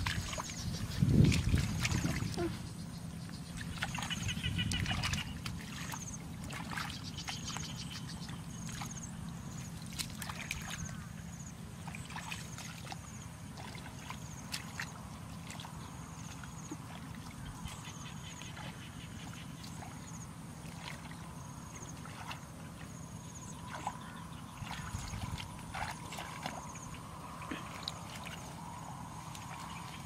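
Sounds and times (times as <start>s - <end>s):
muddy water sloshing: 0.0s - 30.0s.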